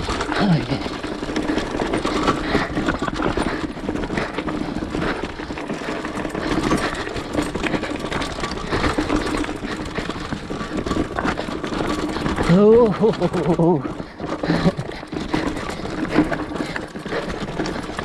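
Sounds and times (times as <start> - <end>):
clatter and knocks over rocks: 0.0 - 18.0
small off-road engine running: 0.0 - 18.0.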